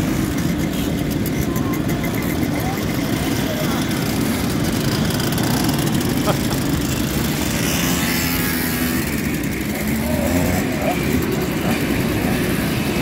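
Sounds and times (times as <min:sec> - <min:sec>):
mopeds riding past: 0:00.0 - 0:13.0.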